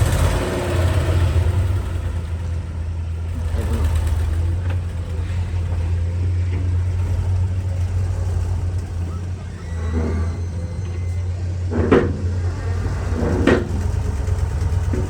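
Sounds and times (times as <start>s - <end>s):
excavator engine droning: 0.0s - 15.0s.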